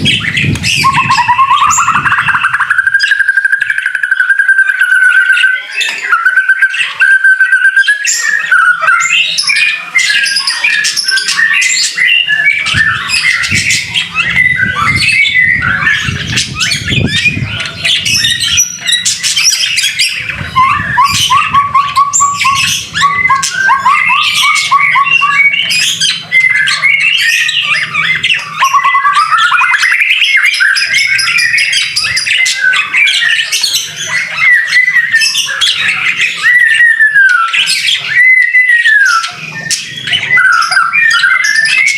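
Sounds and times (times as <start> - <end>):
songbird singing varied whistles: 0.0 - 41.9.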